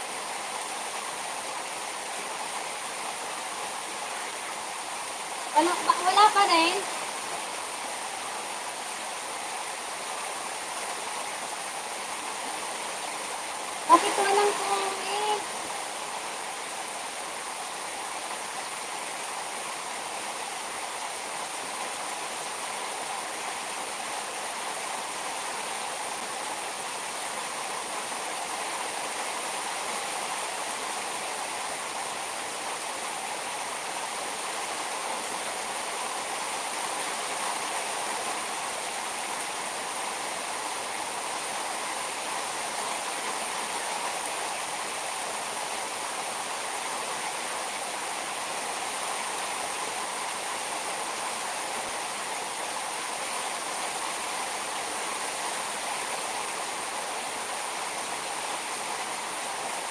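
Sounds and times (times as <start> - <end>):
heavy rain on a net and car: 0.0 - 59.9.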